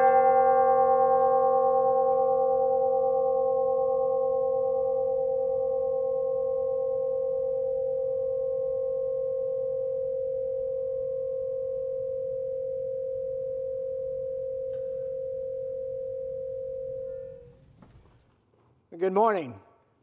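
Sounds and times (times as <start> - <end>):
long ringing tone: 0.0 - 17.6.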